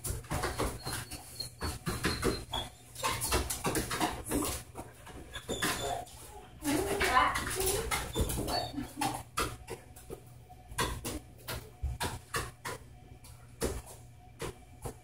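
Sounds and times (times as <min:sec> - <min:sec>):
dog paws clicking and tapping: 0:00.0 - 0:15.0.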